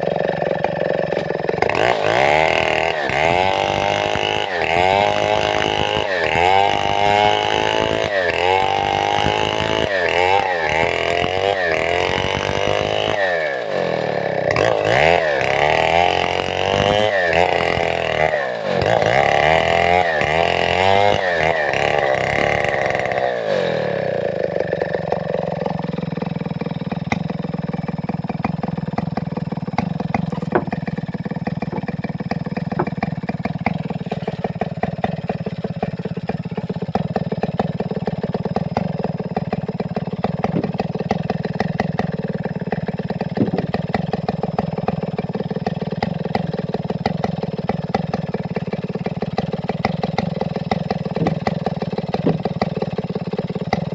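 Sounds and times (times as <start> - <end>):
chainsaw engine revving and idling: 0.0 - 53.9.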